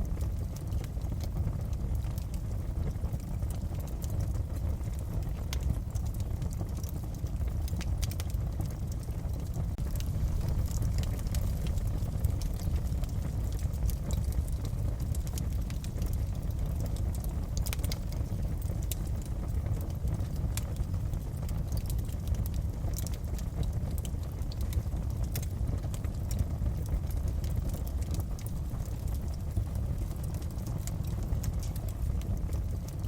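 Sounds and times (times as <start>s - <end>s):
low rumble of fire: 0.0s - 33.0s
wood fire crackling: 0.0s - 33.0s.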